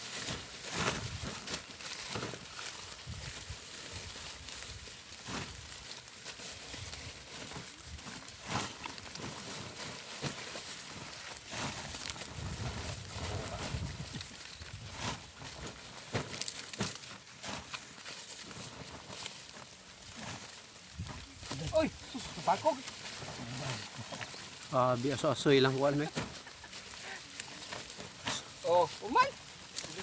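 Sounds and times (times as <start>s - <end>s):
corn husks crackling and rustling: 0.0s - 30.0s.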